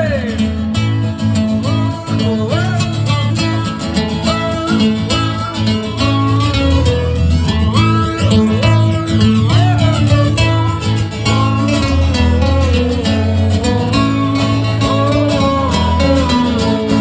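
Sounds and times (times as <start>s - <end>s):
amplified acoustic guitar: 0.0s - 17.0s
sliding melody line: 1.7s - 17.0s.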